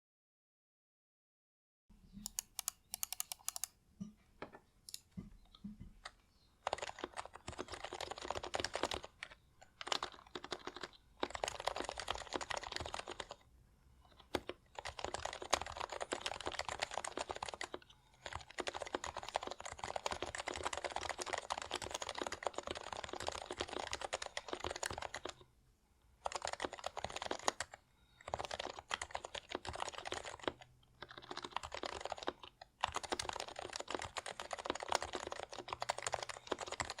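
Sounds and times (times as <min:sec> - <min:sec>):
typing on keyboard: 0:02.2 - 0:03.7, 0:04.9 - 0:13.5, 0:14.1 - 0:25.4, 0:26.2 - 0:37.0.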